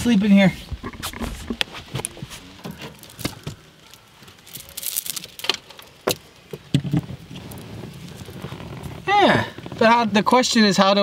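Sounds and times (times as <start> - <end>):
sleeping bag rustling: 0.5 - 10.4.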